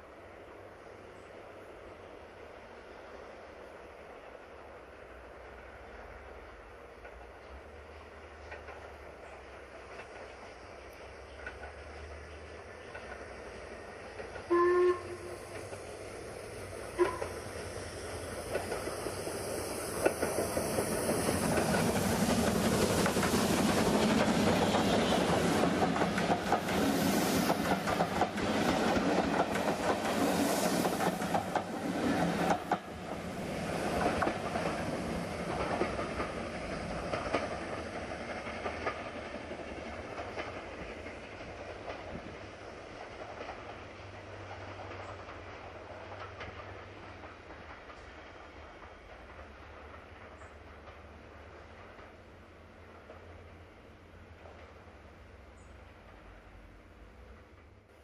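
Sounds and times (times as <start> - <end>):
steam train passing: 0.0 - 58.0.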